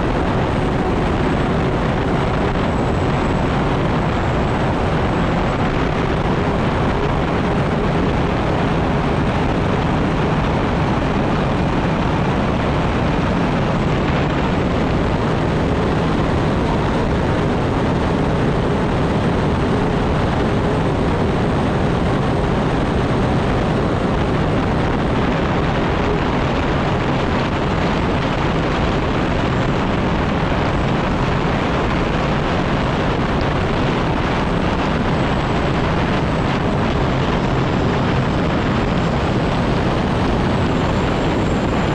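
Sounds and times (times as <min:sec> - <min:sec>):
turbine engine running loudly: 0:00.0 - 0:41.9
wind rushing: 0:00.0 - 0:41.9.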